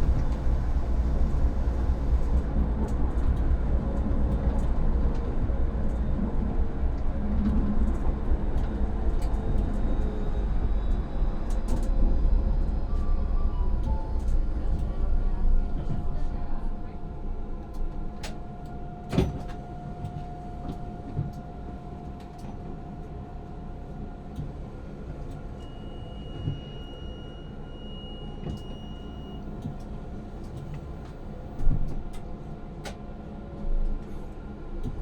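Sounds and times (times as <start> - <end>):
tram electrical hum: 0.0 - 35.0.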